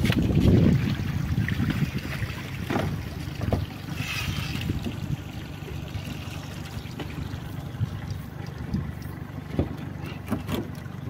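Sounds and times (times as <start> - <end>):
wind rumbling on microphone: 0.0 - 10.7
water sloshing around boat: 0.0 - 11.0.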